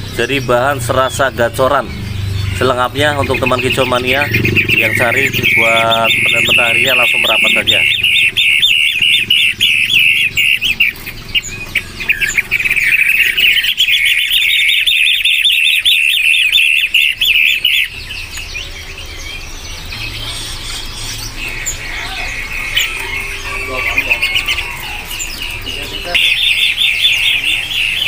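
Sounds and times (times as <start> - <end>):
shrikes calling harshly: 0.0 - 28.0
soft bird chirping: 0.0 - 28.0.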